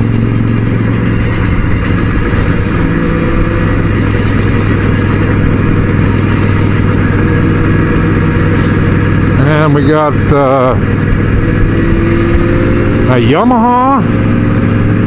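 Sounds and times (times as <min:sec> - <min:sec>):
rushing wind noise: 0:00.0 - 0:13.4
motorcycle engine cruising: 0:00.0 - 0:15.0.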